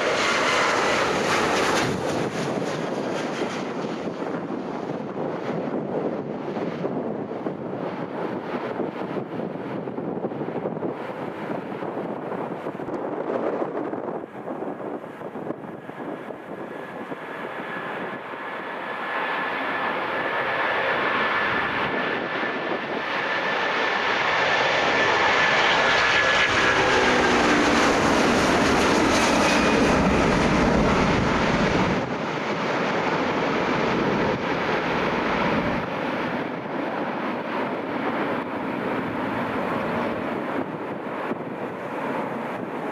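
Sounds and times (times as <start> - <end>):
airliner passing by: 0.0 - 42.9
jet engine noise: 0.0 - 42.9
wind buffeting microphone: 0.0 - 42.9.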